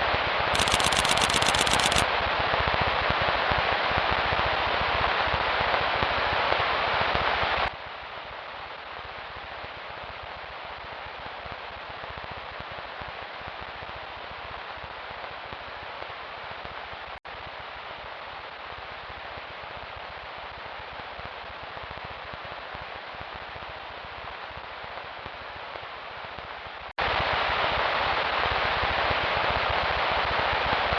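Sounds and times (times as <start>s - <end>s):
static-like hiss: 0.0s - 2.0s, 2.6s - 30.9s.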